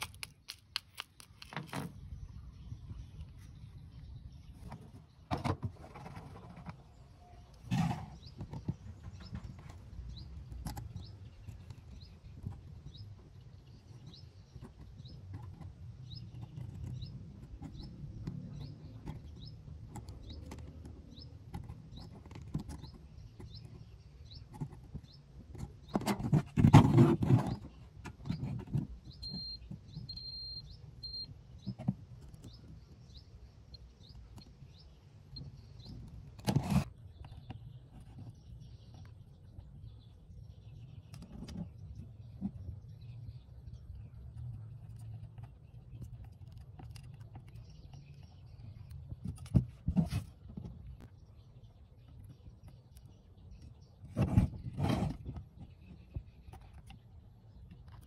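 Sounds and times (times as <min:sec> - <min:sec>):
bird chirping: 0:06.1 - 0:58.0.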